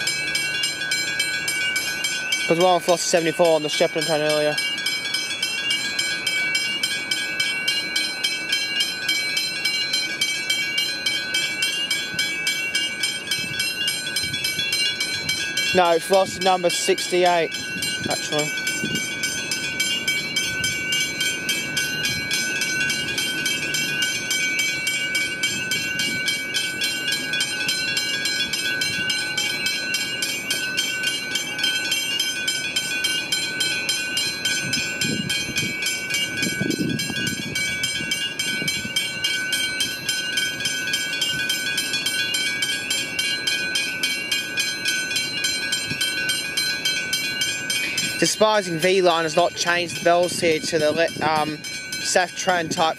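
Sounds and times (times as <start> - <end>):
level crossing bells ringing: 0.0 - 52.9.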